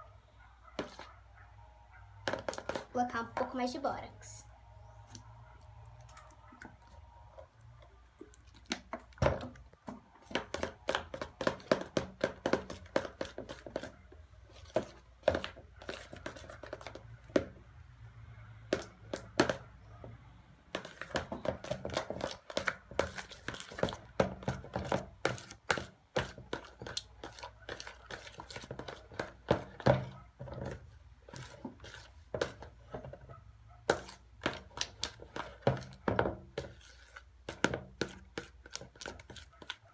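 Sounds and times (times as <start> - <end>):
spoon stirring slime in bowl: 0.8 - 1.2, 2.3 - 3.7, 5.0 - 17.6, 18.7 - 19.7, 20.7 - 39.9.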